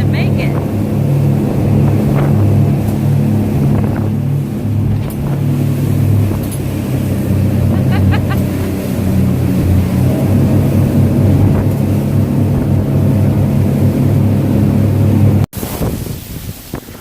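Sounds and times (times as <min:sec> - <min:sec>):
boat motor humming: 0:00.0 - 0:15.5
wind and water noise: 0:00.0 - 0:17.0.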